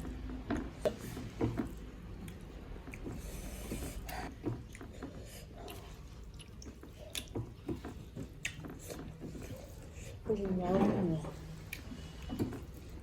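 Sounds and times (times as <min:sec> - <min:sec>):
person chewing with mouth clicks: 0:00.6 - 0:10.1, 0:11.6 - 0:13.0.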